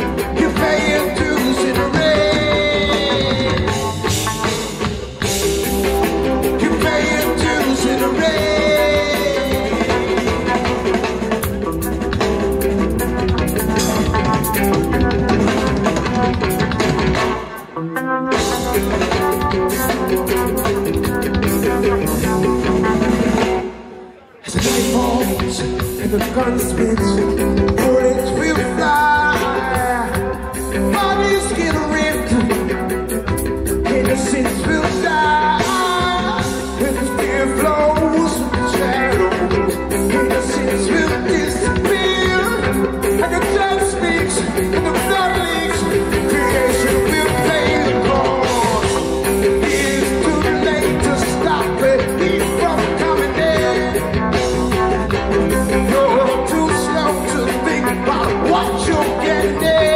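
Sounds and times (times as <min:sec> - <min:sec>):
electric bass: 0:00.0 - 0:23.9, 0:24.5 - 0:59.9
drum kit: 0:00.0 - 0:59.9
electric guitar: 0:00.0 - 0:59.9.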